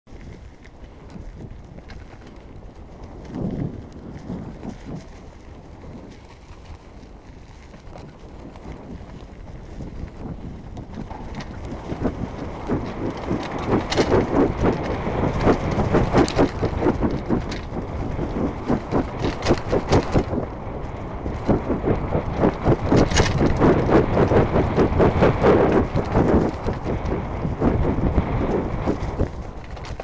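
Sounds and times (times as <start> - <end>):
bike rattling over bumps: 0.1 - 30.0.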